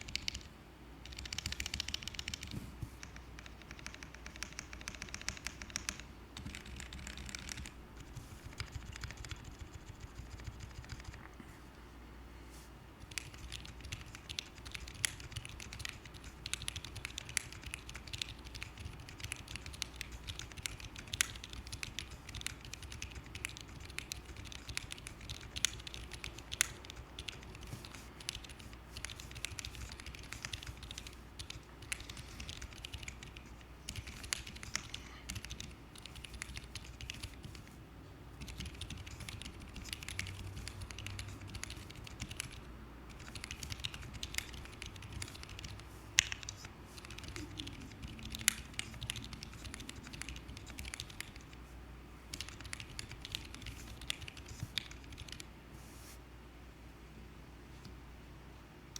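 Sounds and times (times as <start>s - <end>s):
typing on mechanical keyboard: 0.0s - 11.3s, 13.0s - 37.7s, 38.4s - 51.6s, 52.3s - 55.5s.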